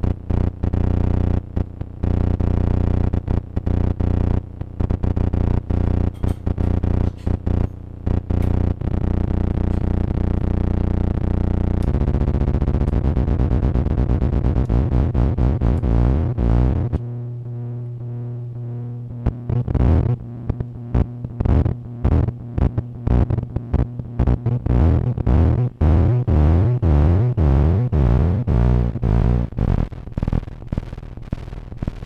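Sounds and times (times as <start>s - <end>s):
buzzing electronic drone: 0.0s - 32.0s.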